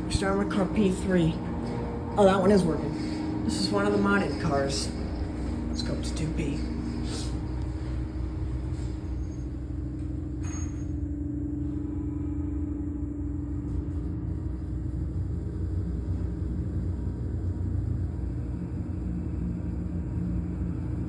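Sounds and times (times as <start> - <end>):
elevator rumble and hum: 0.0 - 21.0.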